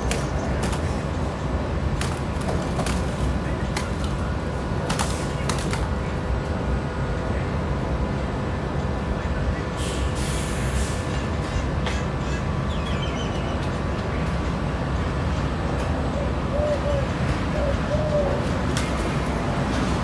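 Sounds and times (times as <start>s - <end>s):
low mechanical rumble with hum: 0.0s - 20.0s.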